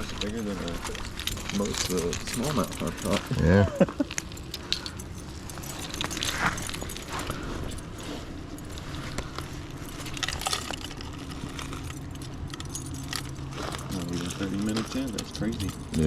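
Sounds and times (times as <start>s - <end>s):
metal chain and clips clinking: 0.0s - 16.0s.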